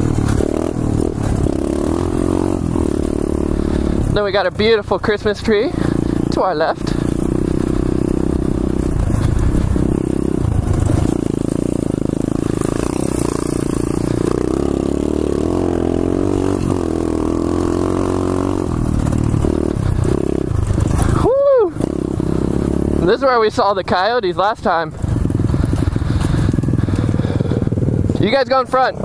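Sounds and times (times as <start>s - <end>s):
motorbike engine revving: 0.0s - 29.0s.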